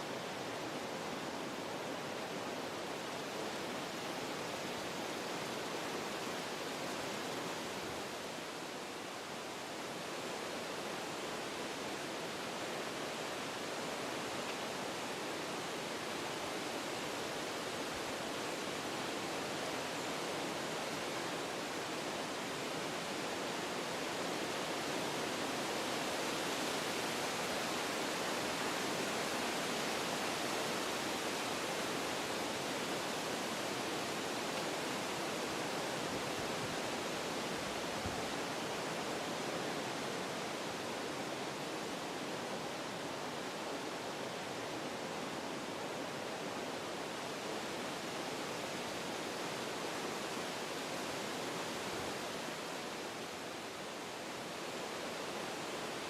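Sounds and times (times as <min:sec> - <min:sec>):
wind blowing through trees: 0:00.0 - 0:56.0.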